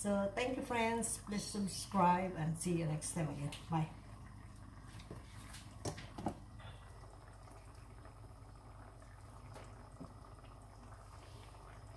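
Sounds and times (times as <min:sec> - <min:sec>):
sauce simmering in a frying pan: 0:00.2 - 0:11.9.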